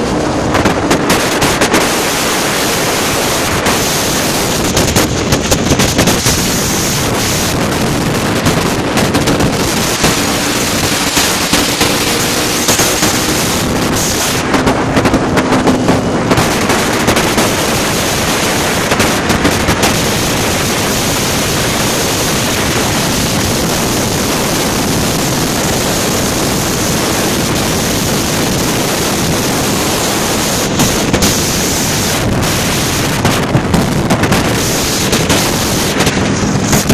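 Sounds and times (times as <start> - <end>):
motorcycle engines running: 0.0 - 36.9
wind buffeting microphone: 0.0 - 36.9.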